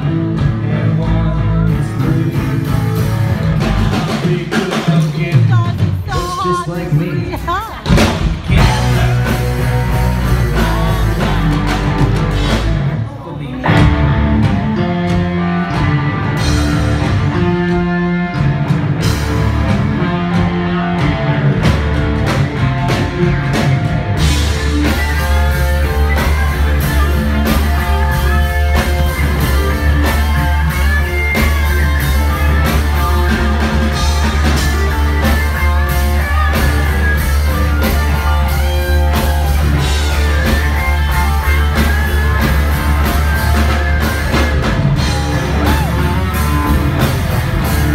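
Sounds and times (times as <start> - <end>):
bass guitar: 0.0 - 47.9
drums: 0.0 - 47.9
electric guitar: 0.0 - 47.9.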